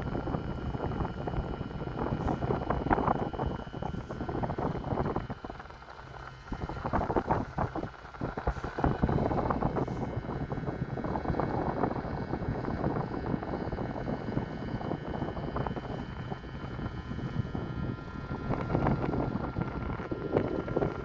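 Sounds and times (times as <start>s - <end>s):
ferry engine rumble: 0.0s - 21.0s
wind buffeting microphone: 0.0s - 21.0s.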